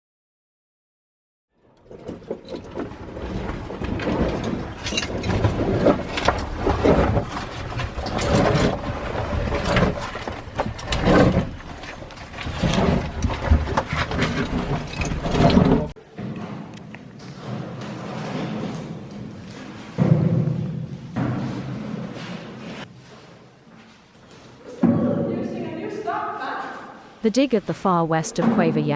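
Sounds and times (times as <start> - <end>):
scraping and clattering: 1.6 - 25.5.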